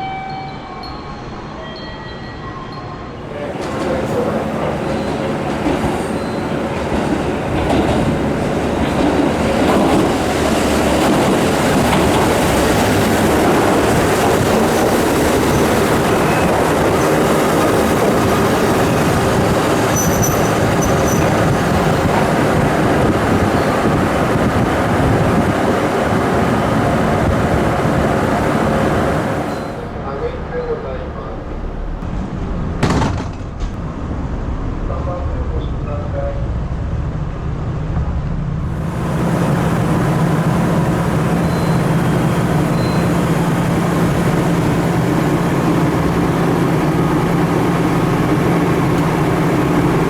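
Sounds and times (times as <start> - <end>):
train wheels rumbling on rails: 3.2 - 30.0, 31.4 - 50.0.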